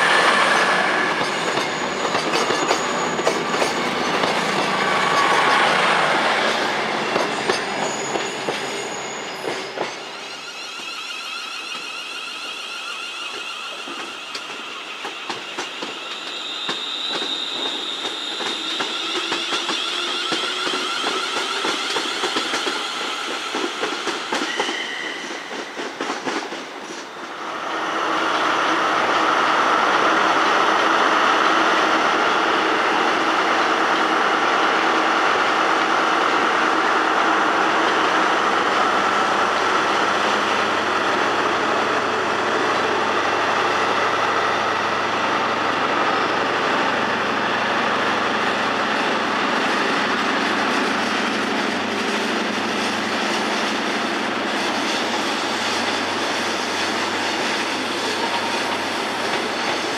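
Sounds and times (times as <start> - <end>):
train running noise: 0.0 - 59.9.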